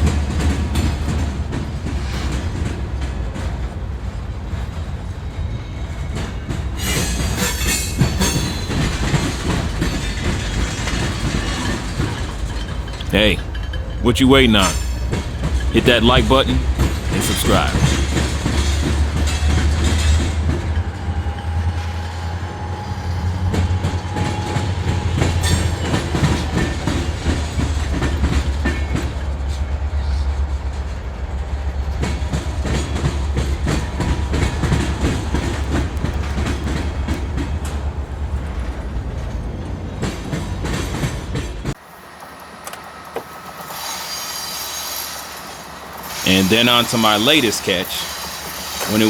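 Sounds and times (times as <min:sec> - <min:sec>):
wheels clicking over rail joints: 0:00.0 - 0:05.2, 0:06.1 - 0:14.0, 0:14.6 - 0:15.8, 0:16.5 - 0:49.0
freight train cars rolling: 0:00.0 - 0:49.0.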